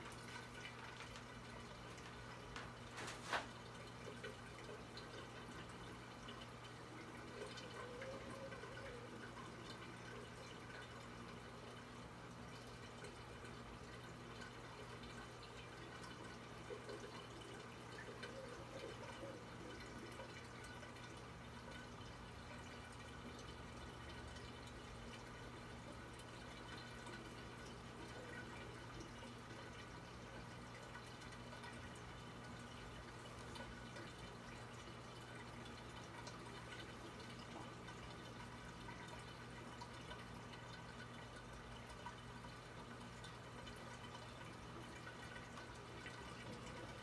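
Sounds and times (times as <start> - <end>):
low steady hum: 0.0 - 47.0
water trickling and dripping: 0.0 - 47.0.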